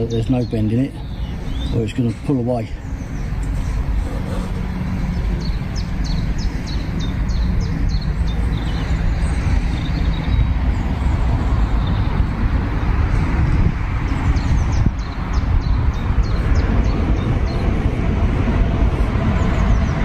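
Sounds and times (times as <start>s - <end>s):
bird chirping: 0.0s - 13.2s, 14.0s - 18.0s
low outdoor rumble: 0.0s - 20.0s.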